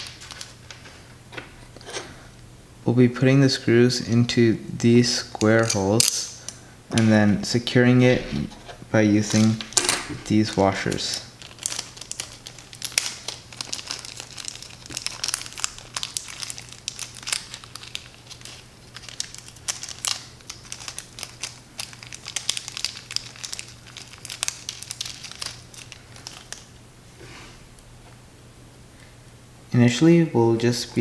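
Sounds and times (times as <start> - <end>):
faint low hum: 0.0 - 19.0, 23.2 - 31.0.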